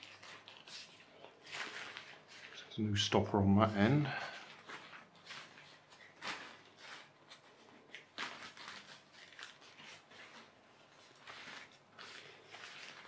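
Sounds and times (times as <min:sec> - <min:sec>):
kite fabric rustling and handling: 0:00.0 - 0:13.0.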